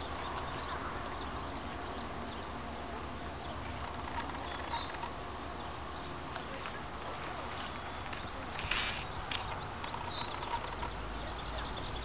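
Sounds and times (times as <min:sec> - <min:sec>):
bird chirp: 0:00.0 - 0:02.6, 0:03.2 - 0:12.0
faint outdoor background hiss: 0:00.0 - 0:12.0.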